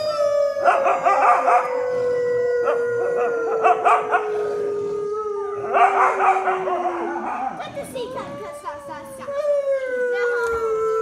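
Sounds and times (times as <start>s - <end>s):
dogs howling and yipping: 0.0s - 11.0s.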